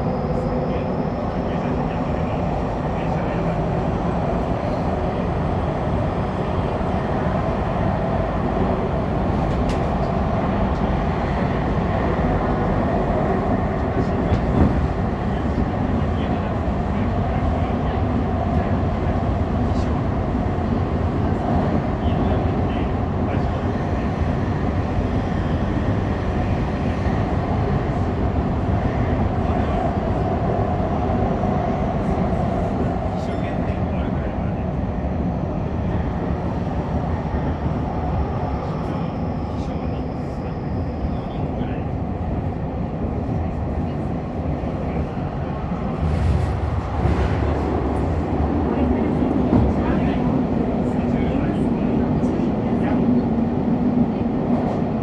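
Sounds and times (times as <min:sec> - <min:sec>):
subway train rumbling in tunnel: 0:00.0 - 0:55.0.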